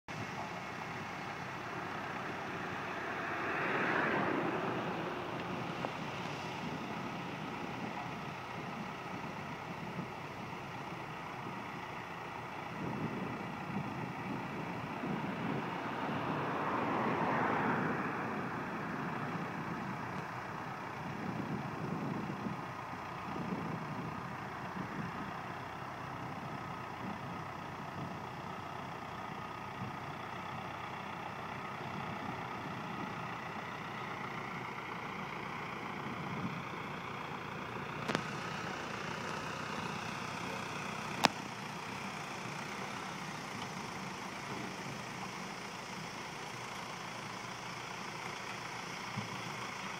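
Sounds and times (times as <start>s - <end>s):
farm machinery engine running: 0.1s - 49.9s.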